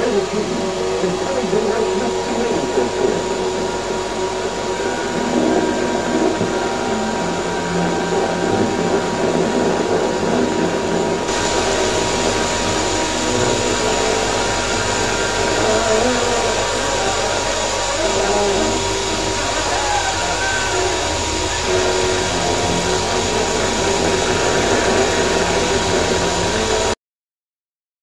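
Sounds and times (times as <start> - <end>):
film projector whirring: 0.0 - 27.0
film soundtrack through amplifier: 0.0 - 27.0.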